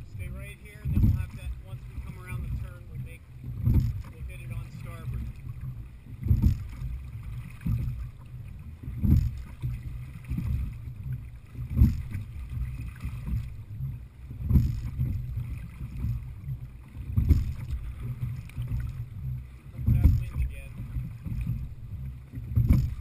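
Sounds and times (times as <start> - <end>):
oars knocking: 0.0 - 23.0
water noise: 0.0 - 23.0
wind: 0.0 - 23.0.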